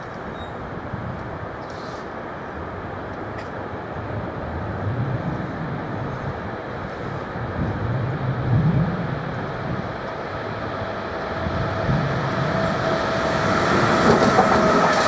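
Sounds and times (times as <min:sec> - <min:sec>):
electric train passing: 0:02.2 - 0:15.0.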